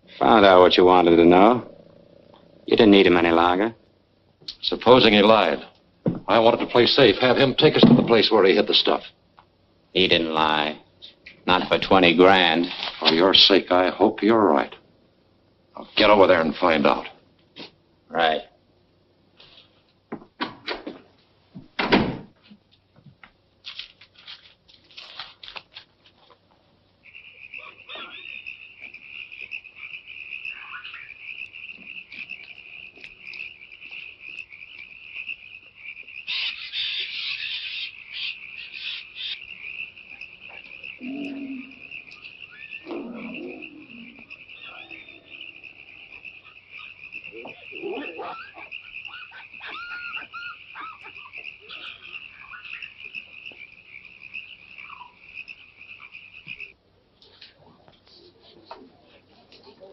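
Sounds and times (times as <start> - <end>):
insects and frogs chirring: 0.0 - 20.1, 23.6 - 59.9.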